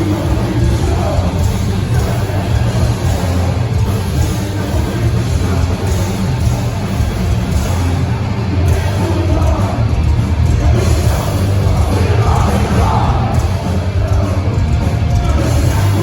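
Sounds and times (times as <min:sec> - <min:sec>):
heavy bass: 0:00.0 - 0:16.0
live hardcore band playing: 0:00.0 - 0:16.0
person singing: 0:00.0 - 0:16.0.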